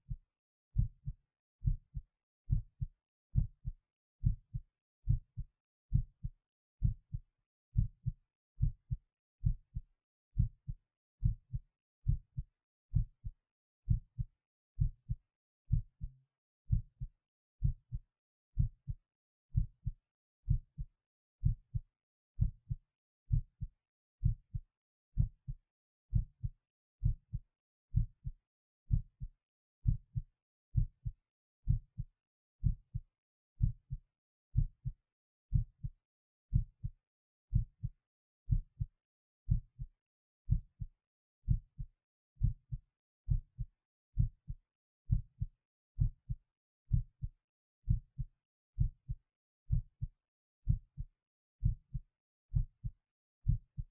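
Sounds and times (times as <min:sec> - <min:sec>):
human heartbeat: 0:00.0 - 0:18.0, 0:18.6 - 0:24.6, 0:25.2 - 0:53.9.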